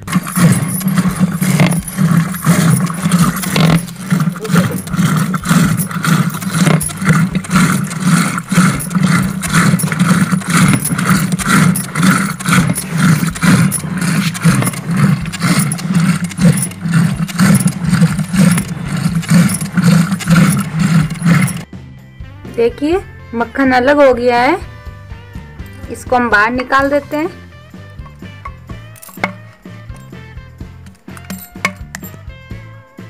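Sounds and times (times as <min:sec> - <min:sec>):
wooden stick churning in clay pot: 0:00.0 - 0:21.7, 0:25.7 - 0:29.6, 0:30.9 - 0:32.2.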